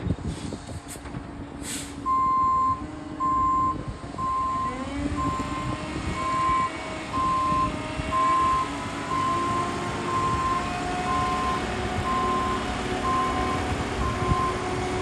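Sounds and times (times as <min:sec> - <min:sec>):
truck engine running: 0:01.0 - 0:15.0
truck reversing alarm beeping: 0:02.0 - 0:15.0.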